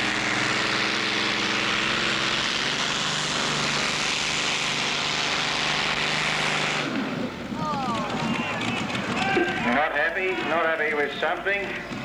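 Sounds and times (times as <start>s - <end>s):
tractor engine roaring: 0.0s - 12.0s.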